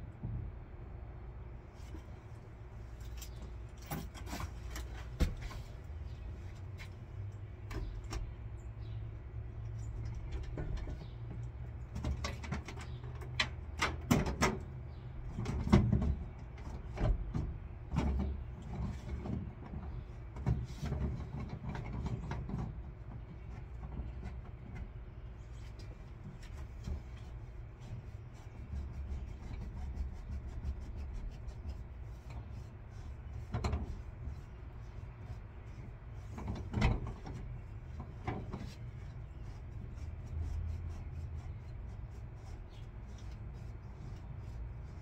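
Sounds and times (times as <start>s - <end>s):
low steady rumble: 0.0s - 45.0s.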